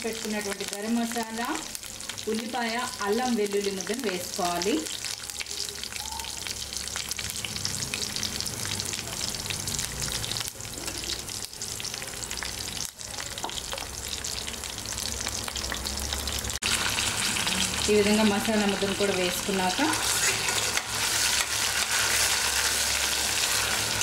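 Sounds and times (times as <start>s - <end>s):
spices sizzling in hot oil: 0.0s - 24.0s.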